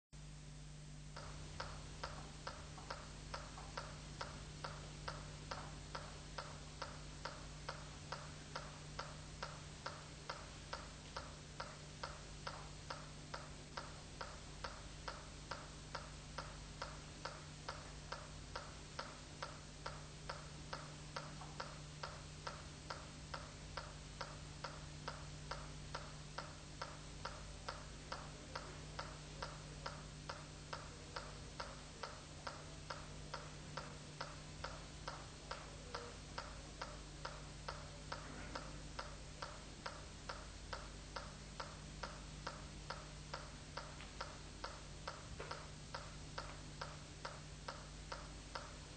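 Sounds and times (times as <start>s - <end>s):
faint low hum: 0.2s - 48.9s
metronome ticking: 1.1s - 48.9s.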